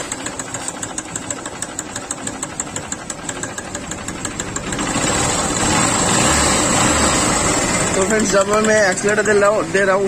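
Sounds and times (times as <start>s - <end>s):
motorcycle engine idling with ticking rattle: 0.0s - 10.0s.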